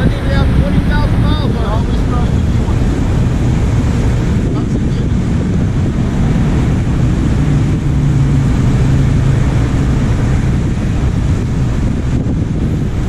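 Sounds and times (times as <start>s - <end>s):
diesel engine rumbling: 0.0s - 13.0s
low hum: 0.0s - 13.0s.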